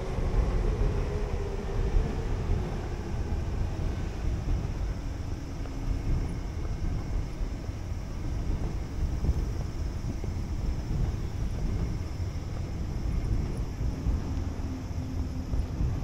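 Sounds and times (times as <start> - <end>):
low street rumble: 0.0 - 16.0
vehicle noise: 0.0 - 16.0.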